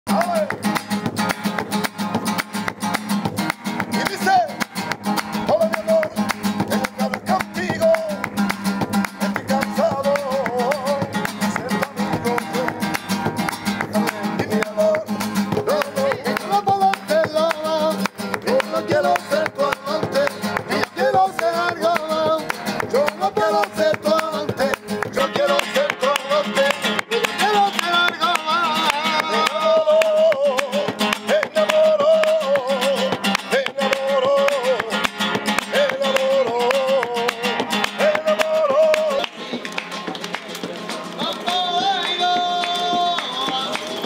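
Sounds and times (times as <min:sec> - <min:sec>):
man singing: 0:00.1 - 0:01.4, 0:03.6 - 0:39.8, 0:40.7 - 0:44.0
acoustic guitar strummed and plucked: 0:00.1 - 0:44.0
hand-clapping: 0:00.1 - 0:44.0.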